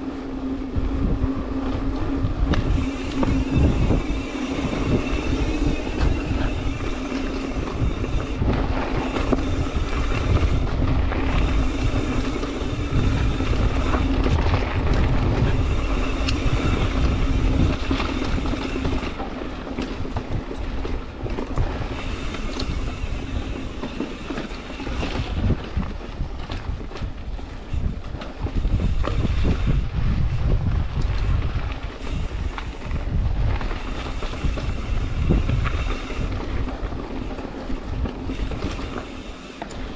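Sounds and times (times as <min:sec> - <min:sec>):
bike tyre rumble: 0:00.0 - 0:39.9
wind buffeting microphone: 0:00.0 - 0:39.9.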